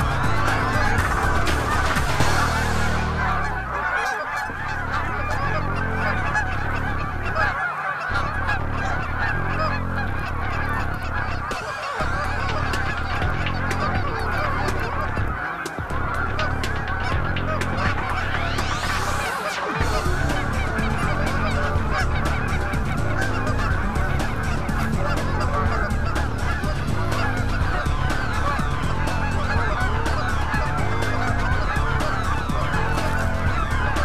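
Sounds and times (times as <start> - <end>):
geese honking: 0.0 - 34.0.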